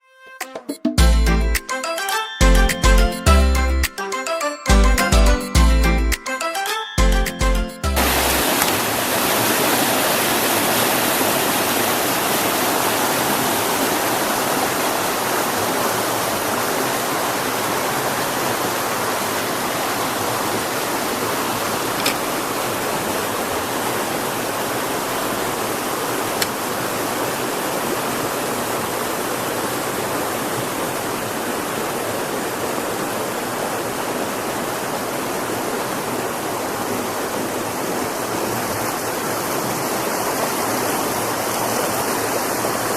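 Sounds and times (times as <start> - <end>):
stream water rushing: 7.9 - 42.9.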